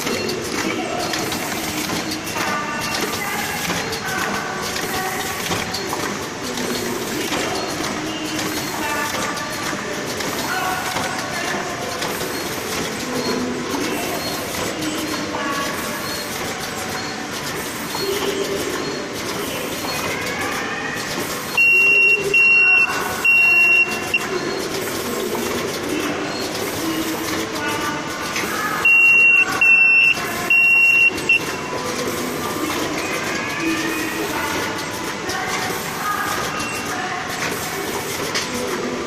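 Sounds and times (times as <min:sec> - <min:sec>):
machine mechanical clatter: 0:00.0 - 0:39.0.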